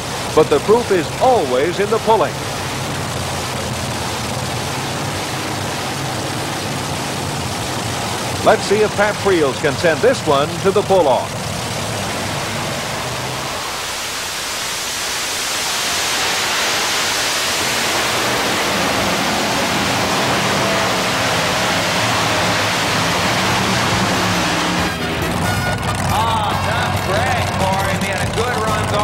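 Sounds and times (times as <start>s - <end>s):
pulling tractor engine roaring: 0.0s - 29.0s.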